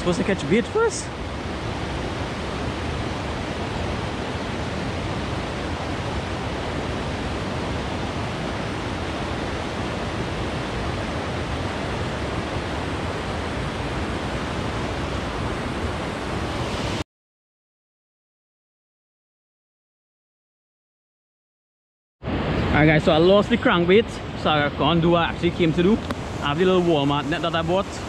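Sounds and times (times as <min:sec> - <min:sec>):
steady rushing noise: 0:00.0 - 0:17.0, 0:22.2 - 0:28.0.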